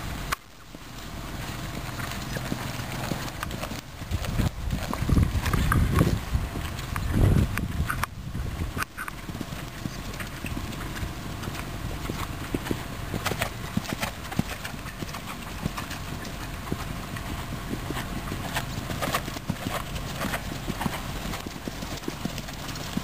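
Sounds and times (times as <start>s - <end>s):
horses cantering on dirt: 0.0s - 23.0s
low rumble on microphone: 0.0s - 23.0s.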